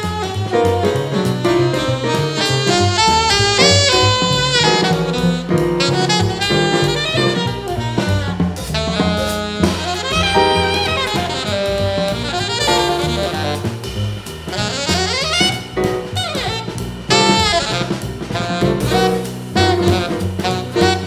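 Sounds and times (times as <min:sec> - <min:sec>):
alto saxophone playing: 0:00.0 - 0:21.0
drum kit with cymbals: 0:00.0 - 0:21.0
upright bass: 0:00.0 - 0:21.0.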